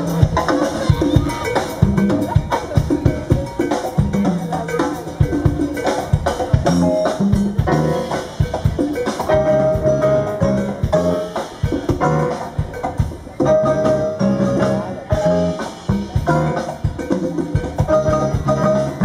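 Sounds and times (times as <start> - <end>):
bass line: 0.0 - 19.0
drum kit with rimshots: 0.0 - 19.0
marimba playing: 0.0 - 19.0.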